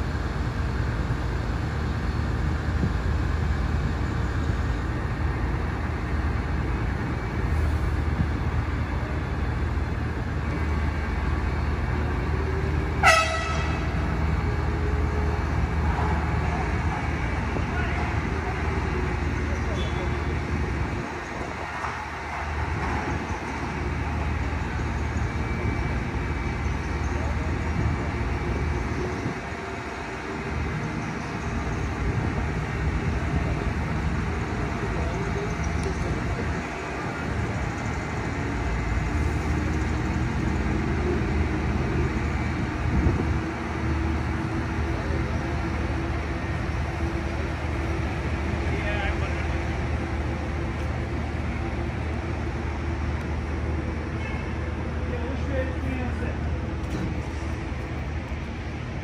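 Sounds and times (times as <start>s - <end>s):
low rumble of street traffic: 0.0s - 59.0s.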